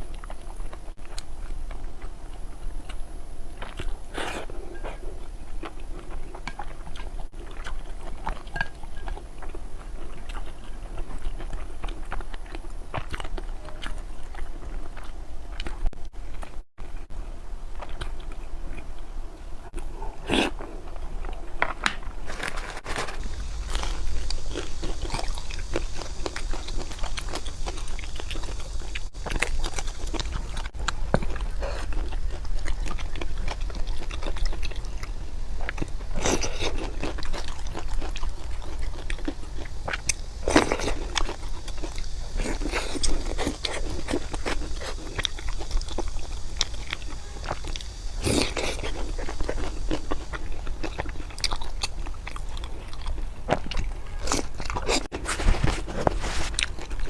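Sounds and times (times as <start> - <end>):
chewing and crunchy bites: 0.0 - 17.1, 17.7 - 19.1, 19.7 - 57.0
low steady hum: 0.0 - 57.0.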